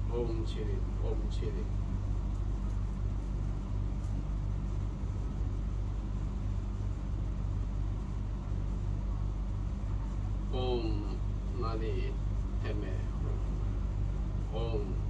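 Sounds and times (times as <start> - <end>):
low background hum and rumble: 0.0 - 15.0.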